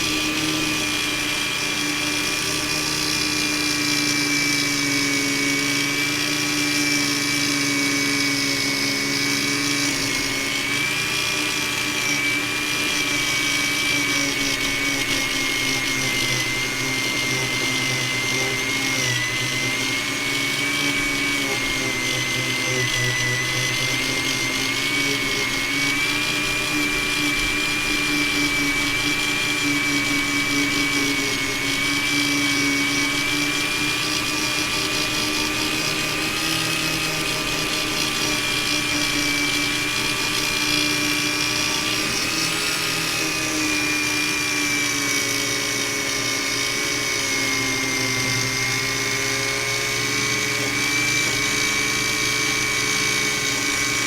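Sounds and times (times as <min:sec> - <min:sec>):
rotary tool high whine: 0:00.0 - 0:54.0.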